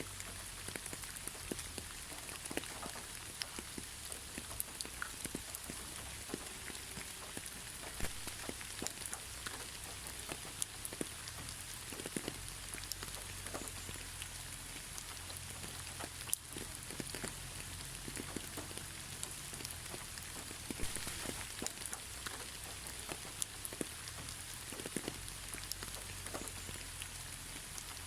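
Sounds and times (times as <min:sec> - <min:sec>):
gentle rain hiss: 0:00.0 - 0:28.0
raindrops pattering on surfaces: 0:00.0 - 0:28.0.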